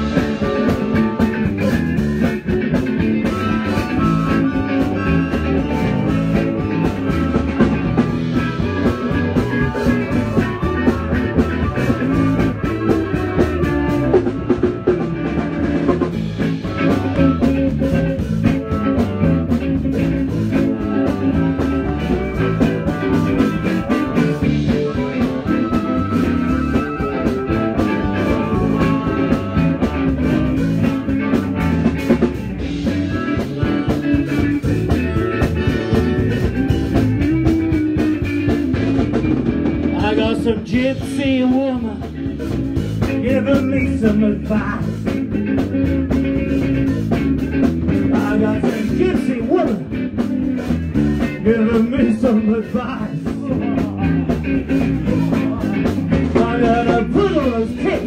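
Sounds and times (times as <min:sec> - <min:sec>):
blues band playing: 0:00.0 - 0:58.0.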